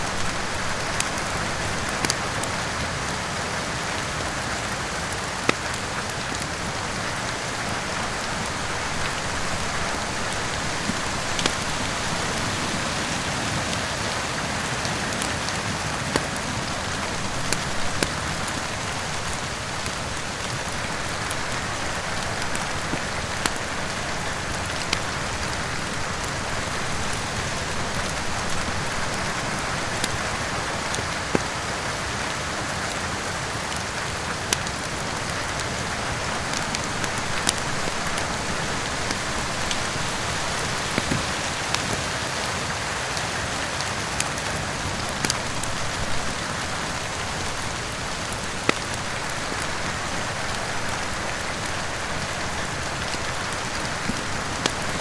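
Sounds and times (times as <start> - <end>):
heavy rain: 0.0 - 55.0
wood fire crackling: 0.0 - 55.0.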